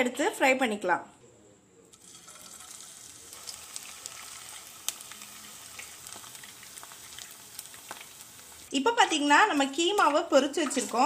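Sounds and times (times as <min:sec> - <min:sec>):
meatballs sizzling in hot oil: 0:02.0 - 0:11.0.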